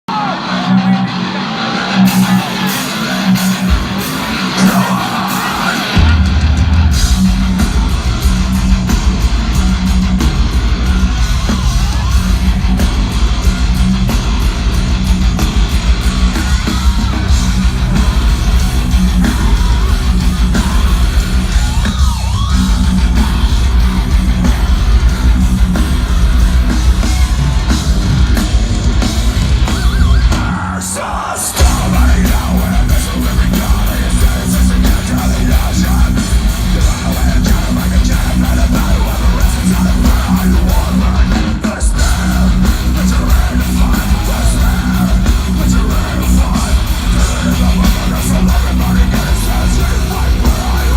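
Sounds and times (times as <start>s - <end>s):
distorted guitar riff: 0.1s - 50.9s
heavy metal band playing live: 0.1s - 50.9s.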